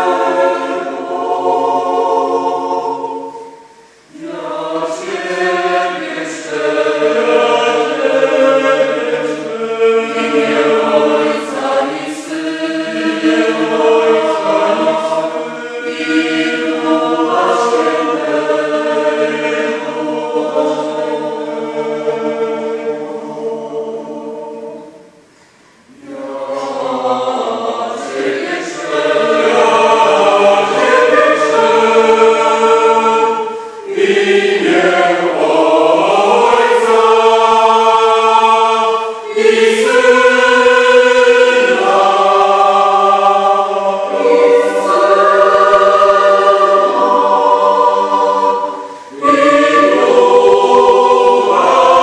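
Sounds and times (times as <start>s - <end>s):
mixed choir singing: 0.0s - 52.0s.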